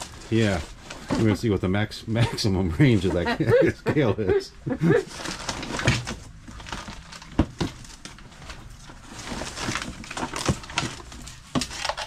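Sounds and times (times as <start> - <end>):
rustling of fabric plastic cardboard: 0.0 - 1.8, 2.6 - 3.6, 5.0 - 12.0.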